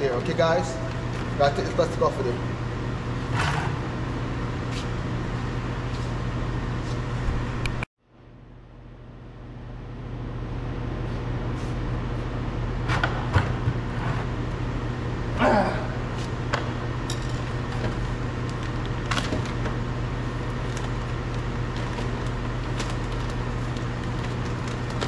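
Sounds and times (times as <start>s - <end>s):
workshop hum: 0.0s - 25.0s.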